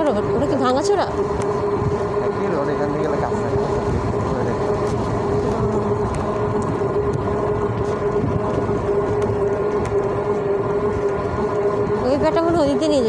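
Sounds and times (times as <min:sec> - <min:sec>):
motor whine: 0:00.0 - 0:13.0
road rumble: 0:00.0 - 0:13.0.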